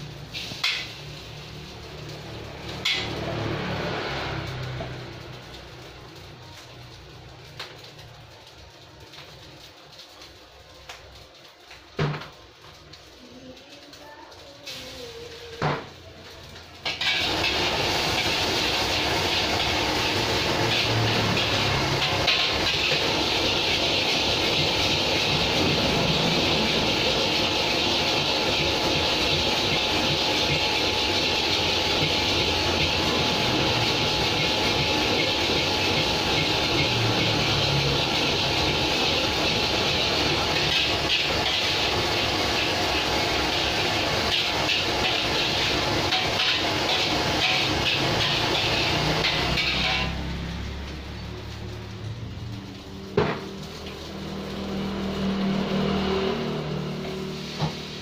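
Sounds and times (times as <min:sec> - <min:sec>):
food sizzling in a wok: 0:00.0 - 0:58.0
gas burner flame rush: 0:00.0 - 0:58.0
clatter of wok: 0:00.3 - 0:50.8, 0:52.5 - 0:54.9.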